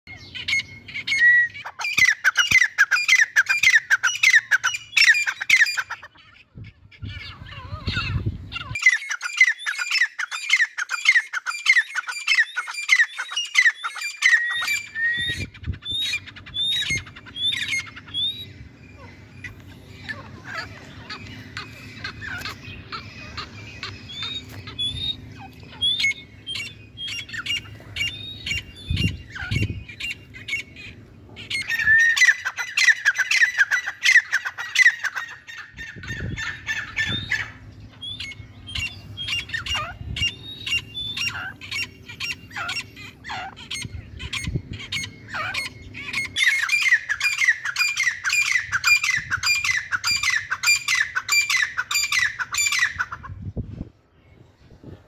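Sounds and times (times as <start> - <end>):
francolins calling: 0.1 - 54.6.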